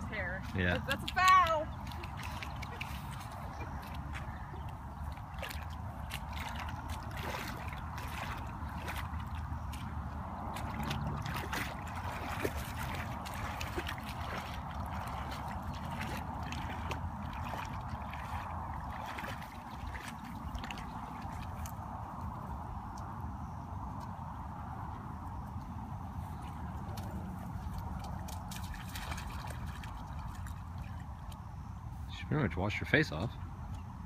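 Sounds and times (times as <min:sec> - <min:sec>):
water trickling and splashing: 0:00.0 - 0:33.7.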